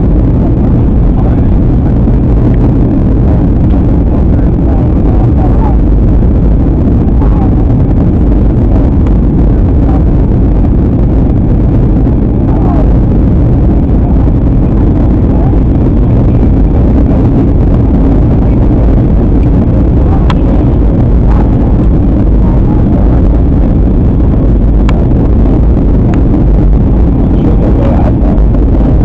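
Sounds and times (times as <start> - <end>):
airliner cabin drone: 0.0 - 29.0.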